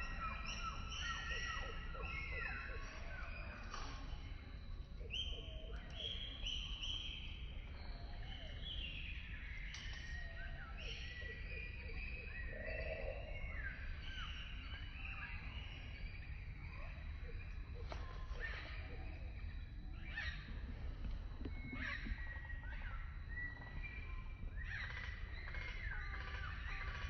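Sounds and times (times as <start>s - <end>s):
birds calling and singing: 0.0s - 27.0s.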